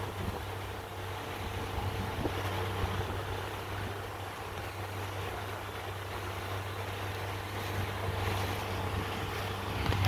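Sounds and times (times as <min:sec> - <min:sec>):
motorboat engine humming: 0:00.0 - 0:10.0
water rushing along hull: 0:00.0 - 0:10.0
wind: 0:00.0 - 0:10.0.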